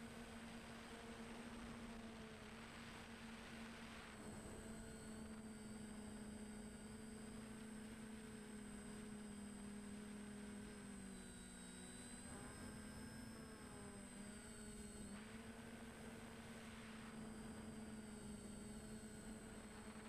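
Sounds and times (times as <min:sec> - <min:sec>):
quadcopter propellers humming: 0:00.0 - 0:20.0.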